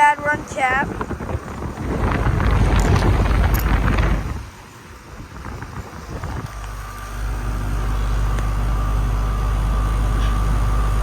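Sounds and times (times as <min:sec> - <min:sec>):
air conditioner compressor humming: 0:00.0 - 0:11.0.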